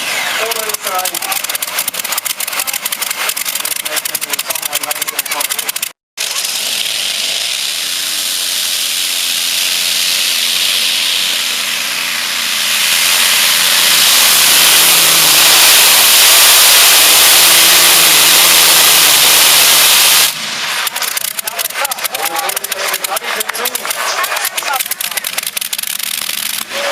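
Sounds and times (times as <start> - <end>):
tractor engine roaring under load: 0.0 - 26.9.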